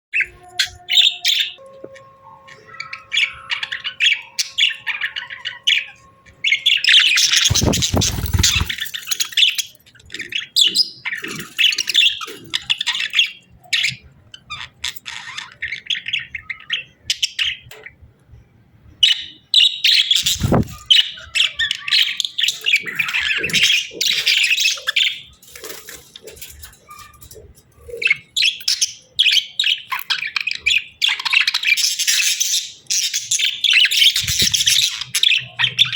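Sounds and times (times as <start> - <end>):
budgerigars chirping: 0.2 - 17.8, 19.0 - 35.9.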